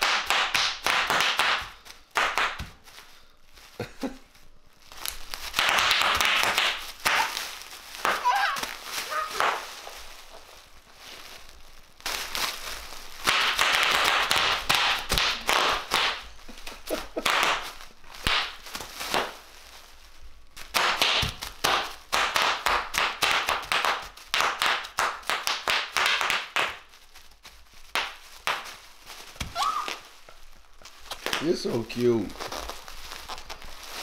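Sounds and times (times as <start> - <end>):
bubble wrap popping underfoot: 0.0 - 34.0.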